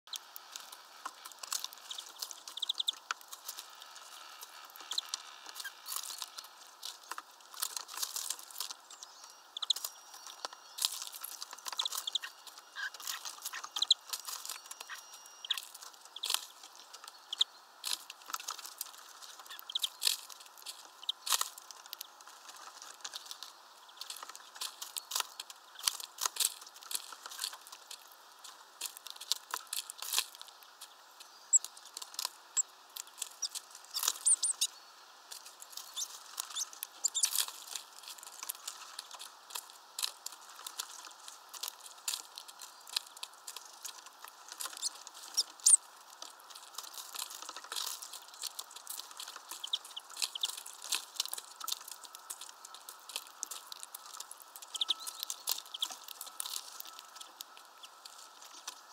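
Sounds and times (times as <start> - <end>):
birds pecking and splashing water: 0.1 - 58.9.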